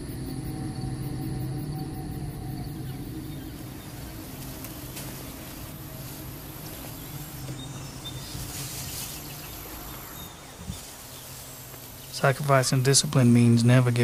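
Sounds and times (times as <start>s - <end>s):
insects buzzing and chirring: 0.0s - 14.0s
low steady hum: 0.0s - 14.0s.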